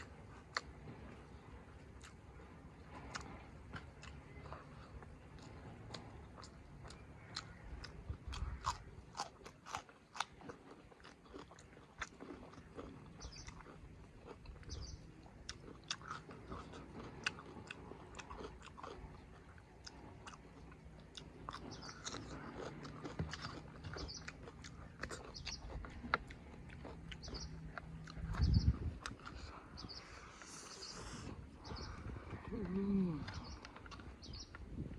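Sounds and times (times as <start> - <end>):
chewing and biting food: 0.0 - 34.9.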